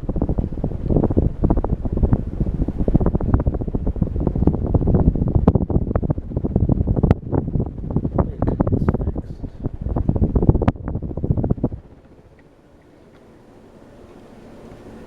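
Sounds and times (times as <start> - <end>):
ceiling fan running: 0.0 - 15.0
wind buffeting microphone: 0.0 - 15.0.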